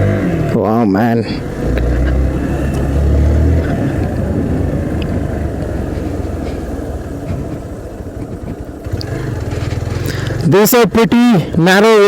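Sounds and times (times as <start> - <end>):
motorcycle engine running: 0.0 - 12.0
wind and riding noise: 0.0 - 12.0.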